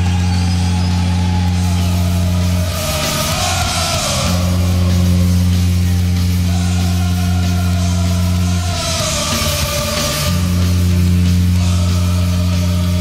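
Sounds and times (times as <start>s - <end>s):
crowd cheering: 0.0s - 13.0s.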